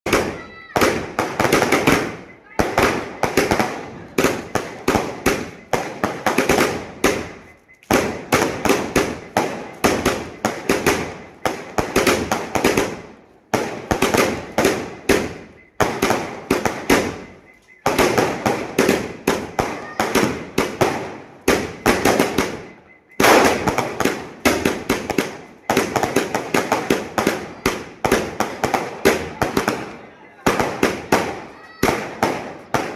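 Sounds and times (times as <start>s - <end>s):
fireworks pops and crackling bursts: 0.0s - 32.9s.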